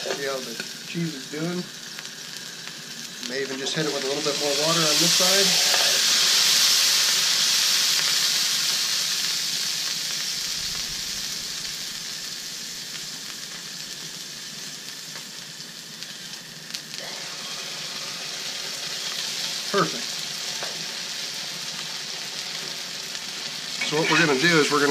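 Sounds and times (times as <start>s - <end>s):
water sizzling on hot griddle: 0.0s - 24.9s.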